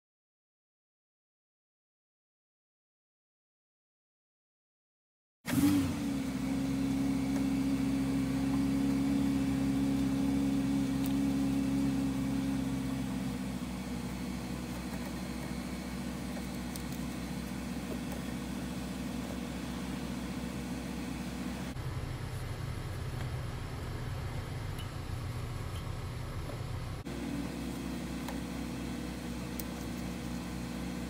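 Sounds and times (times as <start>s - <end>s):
motor humming: 5.5s - 31.0s.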